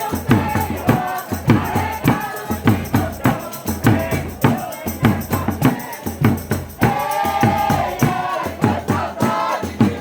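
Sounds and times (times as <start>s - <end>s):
drum beating: 0.0s - 10.0s
tambourine beating: 0.0s - 10.0s.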